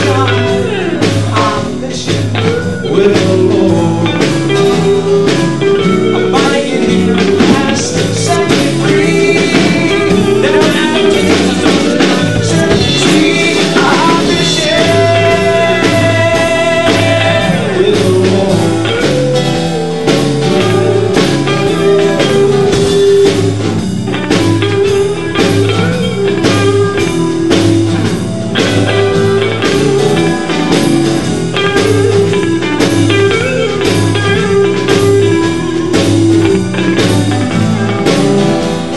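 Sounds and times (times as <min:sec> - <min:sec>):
bass line: 0:00.0 - 0:38.9
drum kit: 0:00.0 - 0:38.9
electric guitar lead: 0:00.0 - 0:38.9.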